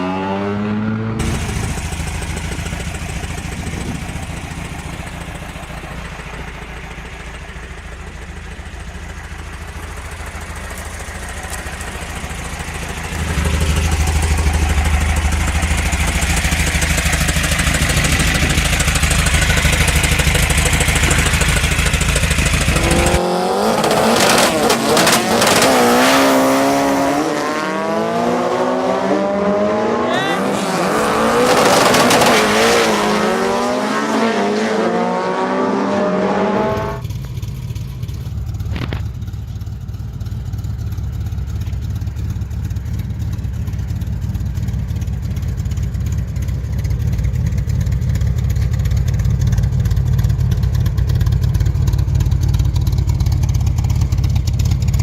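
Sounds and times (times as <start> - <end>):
car engine running: 1.2 - 55.0.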